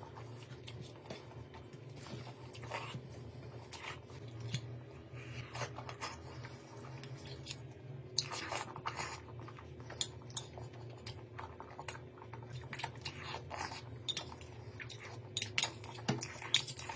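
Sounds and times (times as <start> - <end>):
chewing: 0.0 - 16.9.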